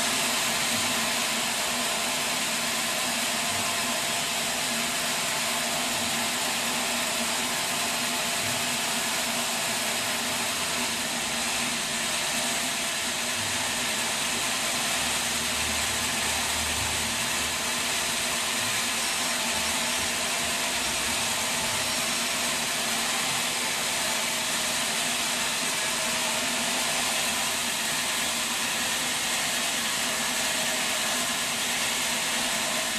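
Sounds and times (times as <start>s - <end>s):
sawmill machinery hum and hiss: 0.0s - 32.9s.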